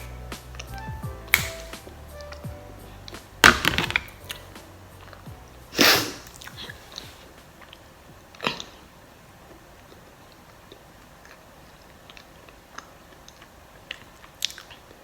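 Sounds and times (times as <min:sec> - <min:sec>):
eating and handling noises: 0:00.0 - 0:15.0.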